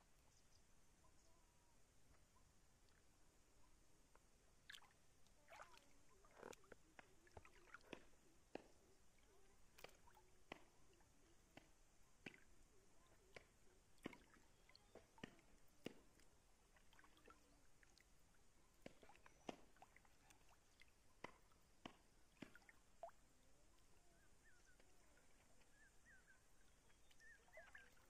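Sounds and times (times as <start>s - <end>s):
faint water drips: 0.0s - 28.0s.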